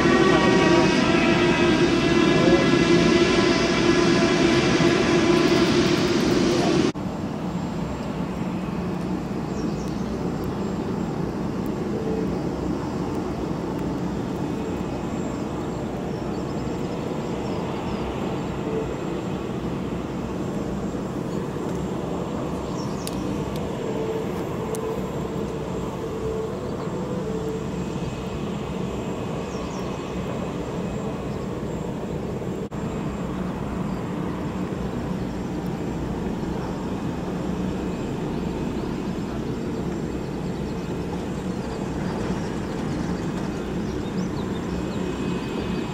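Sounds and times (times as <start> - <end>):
aircraft and vehicle engines droning: 0.0 - 45.9.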